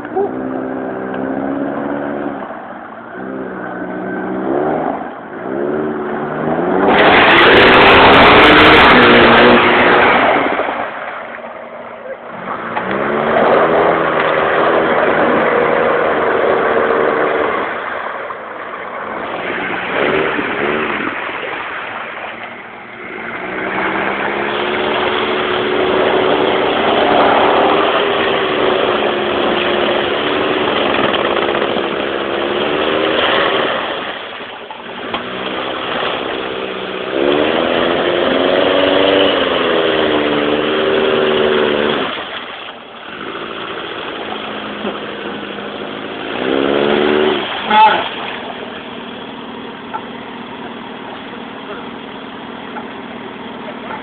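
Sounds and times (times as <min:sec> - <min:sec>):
mud tyres spinning: 0:00.0 - 0:54.0
engine revving hard: 0:03.1 - 0:11.0, 0:12.3 - 0:18.0, 0:19.0 - 0:54.0.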